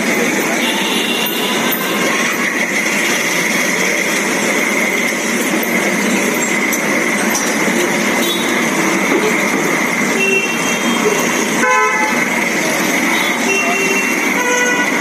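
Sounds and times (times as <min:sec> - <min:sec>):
traffic engines running: 0:00.0 - 0:15.0.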